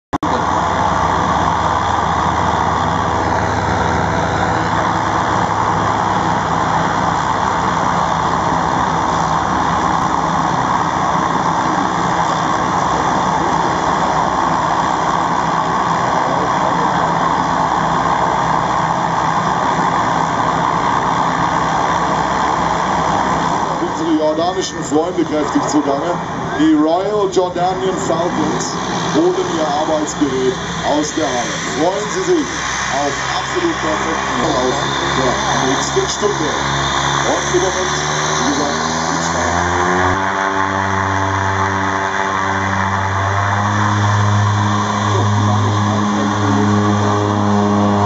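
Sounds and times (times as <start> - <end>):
turboprop engines running: 0.1 - 48.0.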